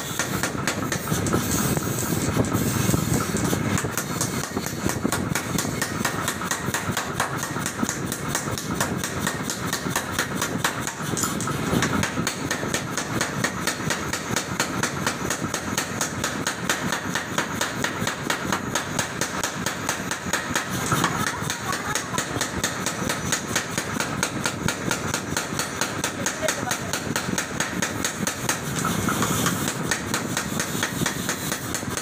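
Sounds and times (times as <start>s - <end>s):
power hammer striking hot steel: 0.0s - 32.0s.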